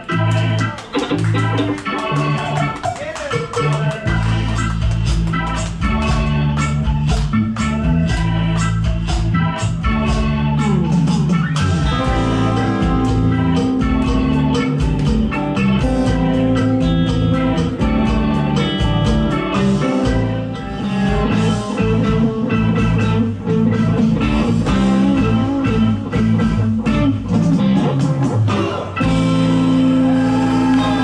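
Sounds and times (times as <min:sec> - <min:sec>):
electric guitar bending notes: 0:00.0 - 0:31.0
live blues-rock band: 0:00.0 - 0:31.0.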